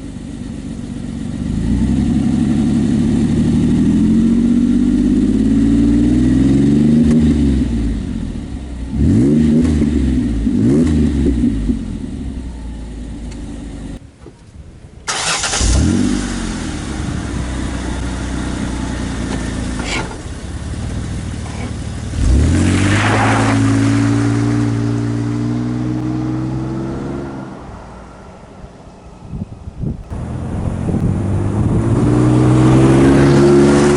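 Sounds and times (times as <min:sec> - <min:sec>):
car engine revving and idling: 0:00.0 - 0:14.0, 0:15.1 - 0:29.2, 0:30.0 - 0:33.9.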